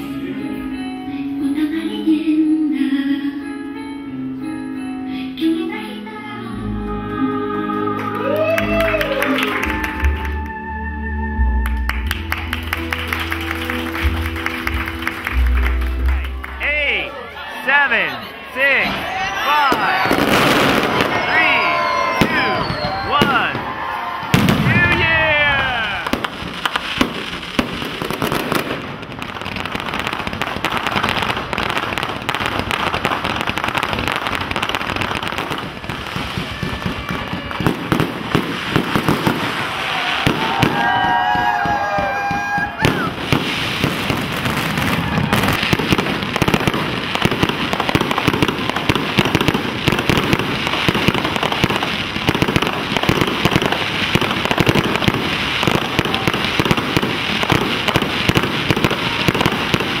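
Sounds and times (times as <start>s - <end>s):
fireworks crackling and popping: 11.7s - 60.0s.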